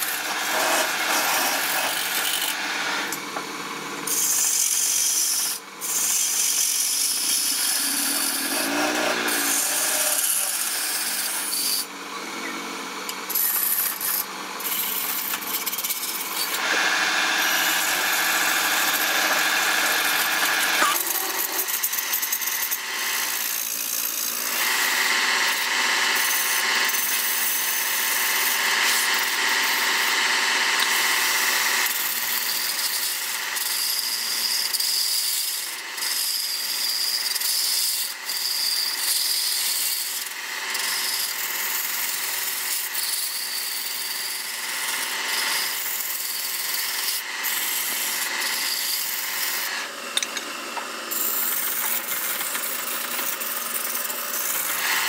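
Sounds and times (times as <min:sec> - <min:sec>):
lathe tool scraping wood: 0:00.0 - 0:55.0.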